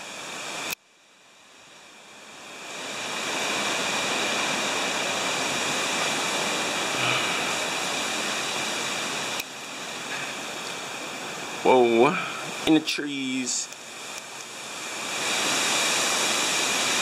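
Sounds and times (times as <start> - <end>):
strong wind rushing through trees: 0.0 - 17.0.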